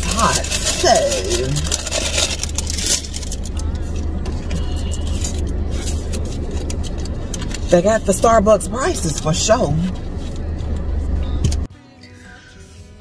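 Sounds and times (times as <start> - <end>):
car engine rumble: 0.0 - 11.7.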